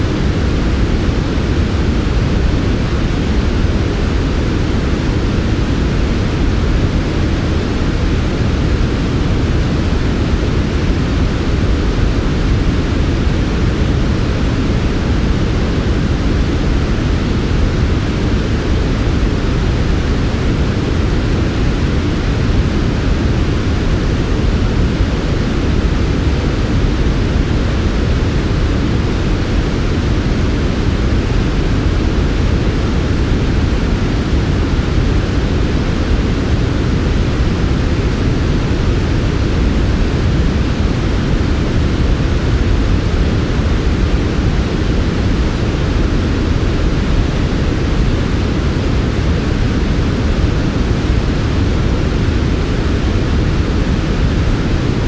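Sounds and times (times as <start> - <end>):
deep white noise: 0.0 - 55.0.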